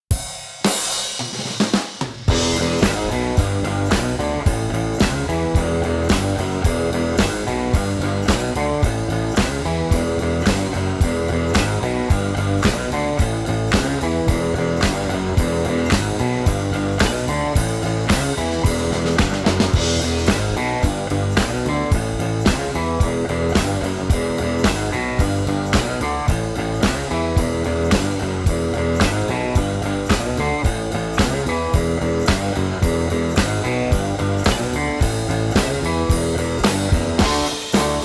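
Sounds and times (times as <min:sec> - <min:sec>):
rock band music: 0:00.1 - 0:38.0.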